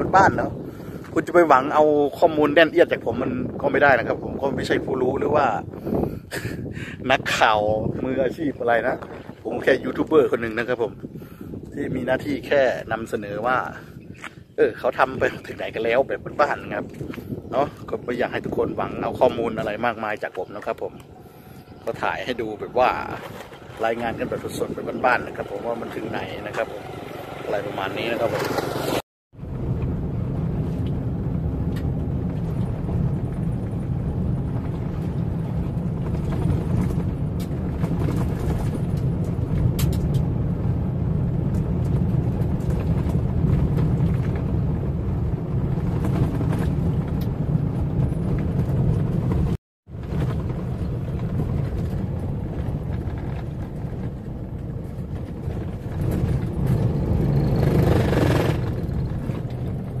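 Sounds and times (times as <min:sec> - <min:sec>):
car engine and tyres rumbling: 0:00.0 - 1:00.0.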